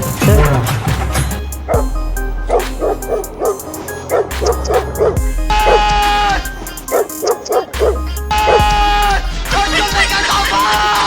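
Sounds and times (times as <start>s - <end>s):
music with bass line: 0.0s - 11.0s.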